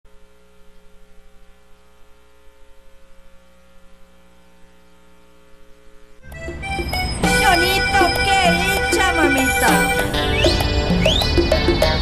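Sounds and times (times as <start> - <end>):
electrical hum: 0.1 - 12.0.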